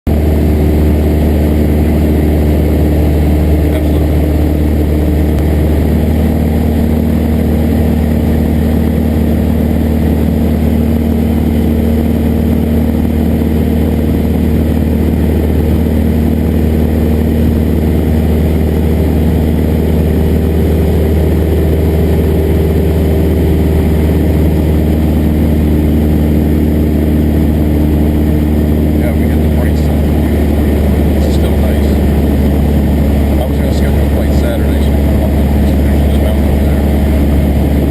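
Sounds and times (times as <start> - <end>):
airplane propeller engine drone: 0.1 - 37.9.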